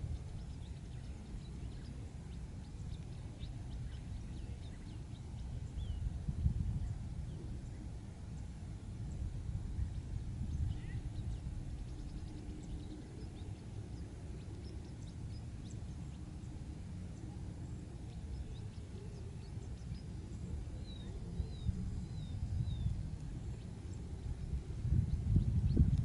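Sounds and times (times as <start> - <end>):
faint bird chirps: 0.0 - 6.1, 9.1 - 24.2
wind rumble on microphone: 0.0 - 26.0.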